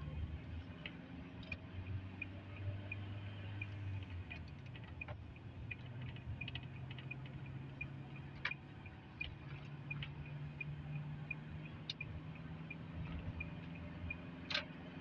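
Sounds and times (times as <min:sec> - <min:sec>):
car engine and road hum: 0:00.0 - 0:15.0
turn signal ticking: 0:00.2 - 0:15.0.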